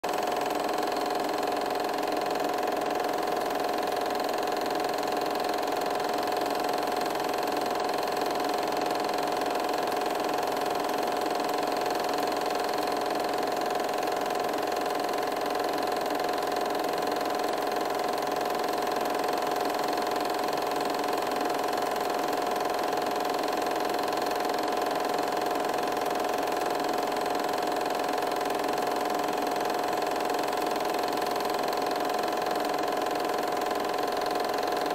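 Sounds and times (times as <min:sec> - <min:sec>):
film projector whirring: 0:00.0 - 0:34.9.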